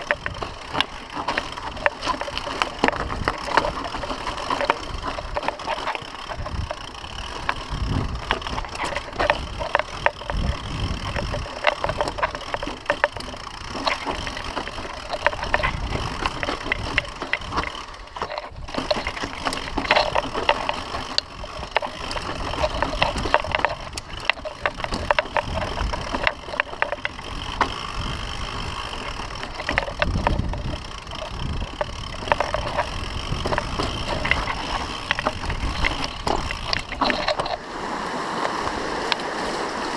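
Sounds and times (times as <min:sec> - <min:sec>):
bike rattling over rocks: 0:00.0 - 0:39.9
wind rumble on microphone: 0:00.0 - 0:39.9.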